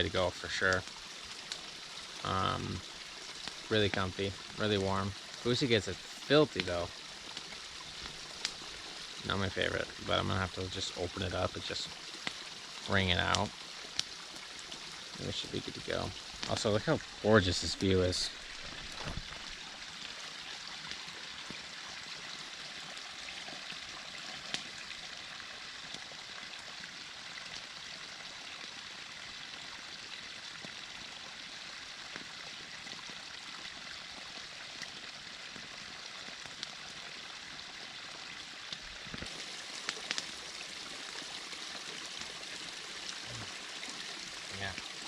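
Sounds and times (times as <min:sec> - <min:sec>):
creek water running: 0:00.0 - 0:45.0.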